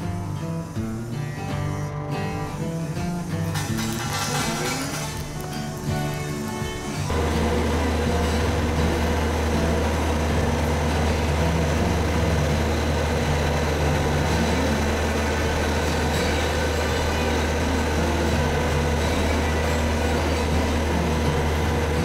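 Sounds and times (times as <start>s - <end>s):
road roller engine droning: 0.0s - 22.0s.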